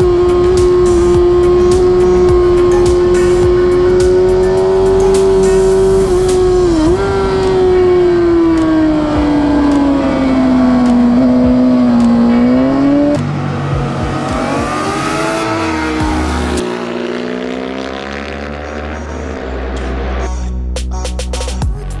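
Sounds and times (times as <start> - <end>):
motorcycle engine revving: 0.0 - 20.3.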